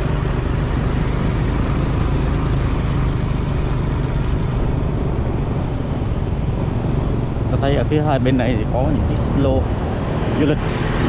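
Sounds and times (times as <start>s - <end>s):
small vehicle engine running: 0.0s - 9.4s.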